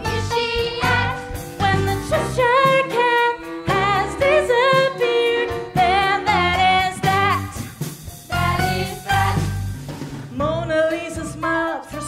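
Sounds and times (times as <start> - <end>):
group singing a musical song: 0.0 - 9.8
instrumental accompaniment: 0.0 - 12.0.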